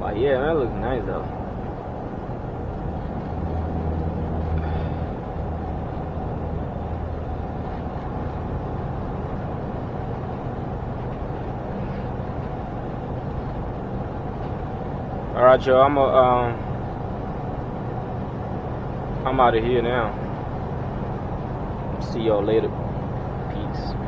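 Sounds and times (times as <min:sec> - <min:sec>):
diesel engine hum: 0:00.0 - 0:24.0
road noise: 0:00.0 - 0:24.0.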